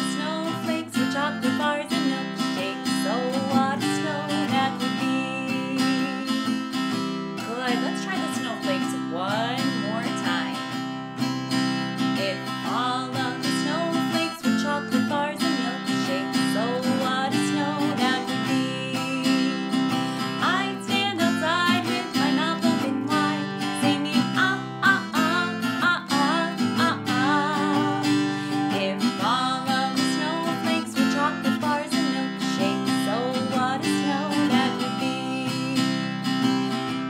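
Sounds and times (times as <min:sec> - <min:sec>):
strummed acoustic guitar: 0:00.0 - 0:37.0
woman singing: 0:00.0 - 0:37.0.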